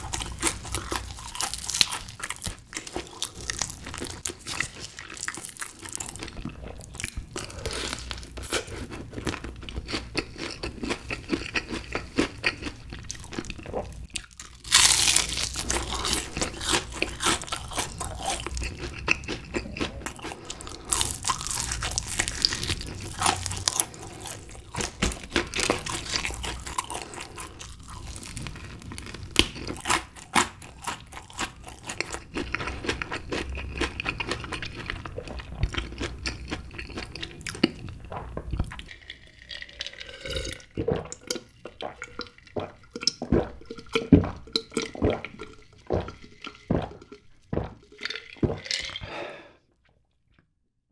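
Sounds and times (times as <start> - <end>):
crunching and chewing fried chicken: 0.0 - 49.2.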